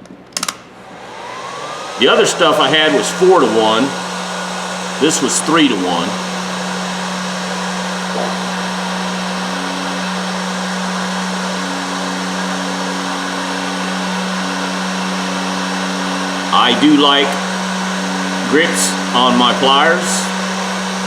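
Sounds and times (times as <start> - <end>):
heat gun blowing: 0.8 - 21.0
higher hum: 0.8 - 21.0.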